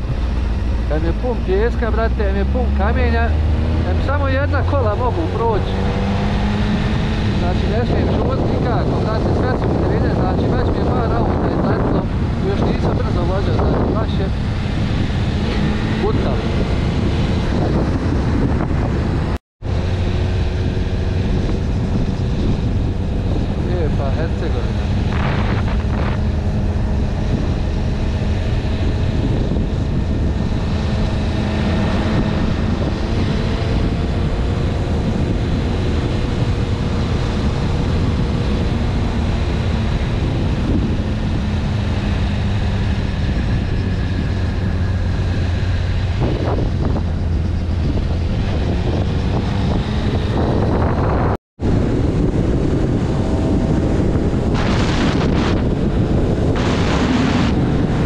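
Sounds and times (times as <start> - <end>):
motorcycle engine cruising: 0.0 - 58.0
wind on microphone: 0.0 - 58.0.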